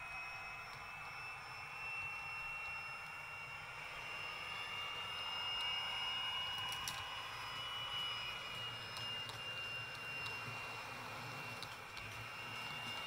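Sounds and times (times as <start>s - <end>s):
model train running: 0.0s - 13.0s.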